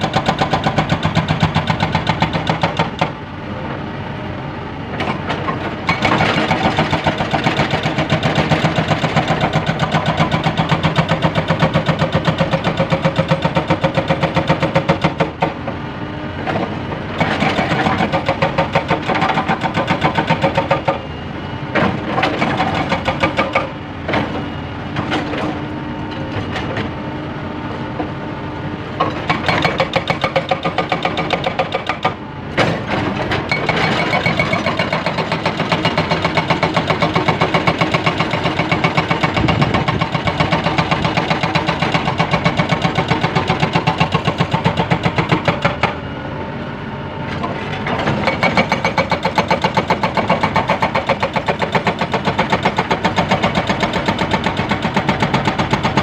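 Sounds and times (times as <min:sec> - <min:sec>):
hydraulic breaker hammering rock: 0:00.0 - 0:03.2, 0:05.0 - 0:15.6, 0:16.5 - 0:21.0, 0:21.8 - 0:24.3, 0:29.0 - 0:46.0, 0:47.8 - 0:56.0
excavator engine: 0:00.0 - 0:56.0.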